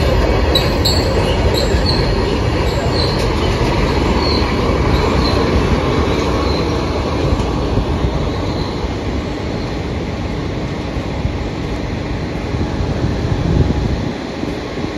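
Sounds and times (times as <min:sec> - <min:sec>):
train wheels rumbling and clattering: 0:00.0 - 0:14.9.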